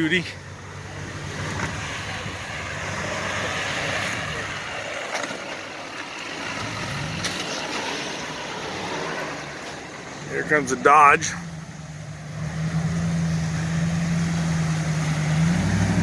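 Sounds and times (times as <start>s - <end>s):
pickup truck engine running: 0.0s - 16.0s
rushing water and tyres: 0.0s - 16.0s.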